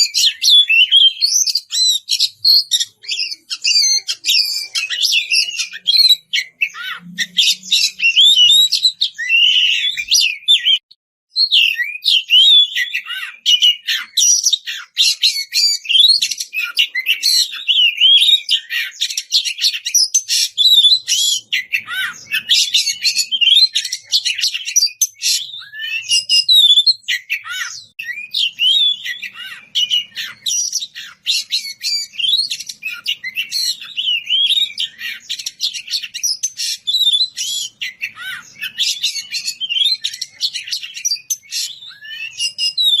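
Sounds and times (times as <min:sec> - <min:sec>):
songbird singing whistles and chatter: 0:00.0 - 0:43.0.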